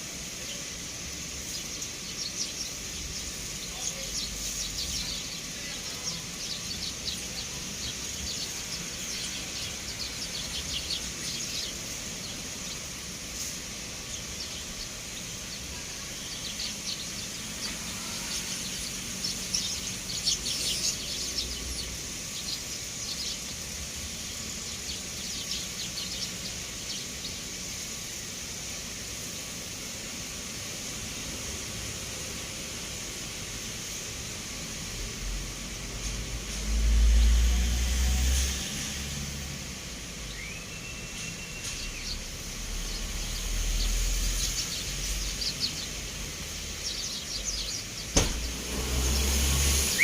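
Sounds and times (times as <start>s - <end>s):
sparrows chirping: 0.0s - 50.0s
steady high hiss: 0.0s - 50.0s.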